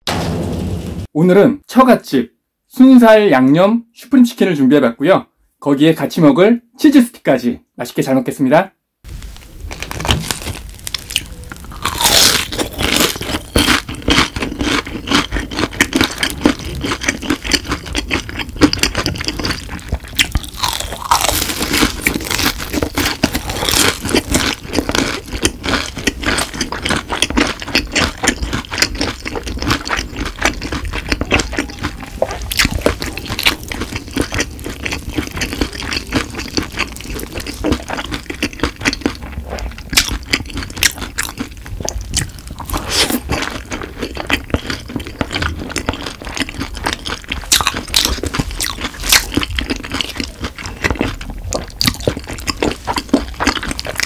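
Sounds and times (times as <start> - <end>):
crunching fried food: 9.1 - 54.0.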